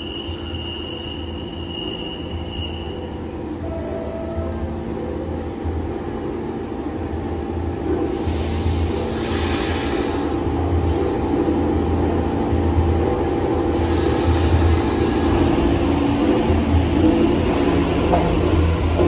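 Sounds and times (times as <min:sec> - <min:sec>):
subway train running: 0:00.0 - 0:19.0.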